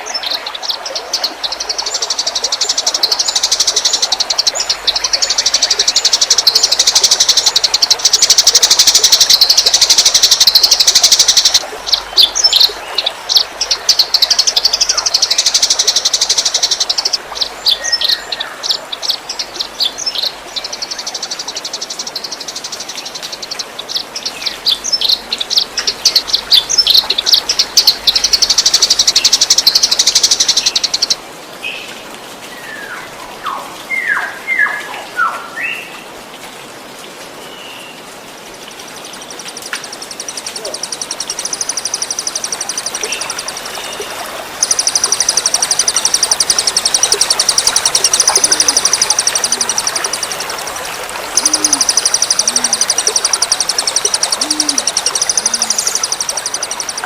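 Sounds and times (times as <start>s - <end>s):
songbirds trilling: 0.0s - 31.9s, 38.6s - 57.0s
trickling water: 0.0s - 57.0s.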